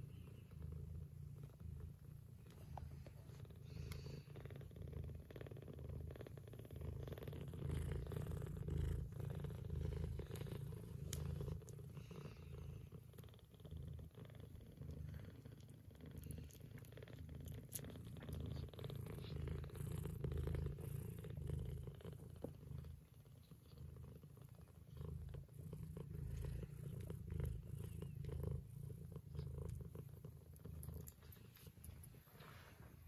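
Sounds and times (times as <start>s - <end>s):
cat purring: 0.0s - 33.0s.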